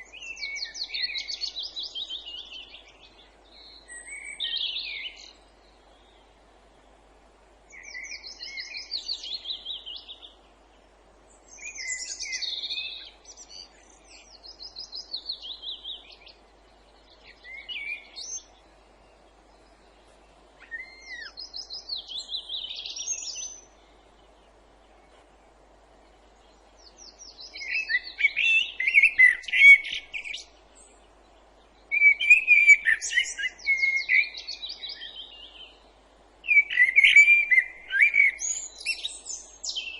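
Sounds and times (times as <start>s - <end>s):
faint background hiss: 0.0s - 39.9s
songbirds trilling: 0.0s - 39.9s.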